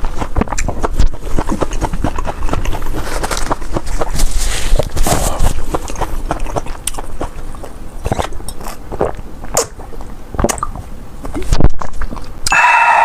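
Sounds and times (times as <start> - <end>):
wet chewing of noodles: 0.0 - 12.9.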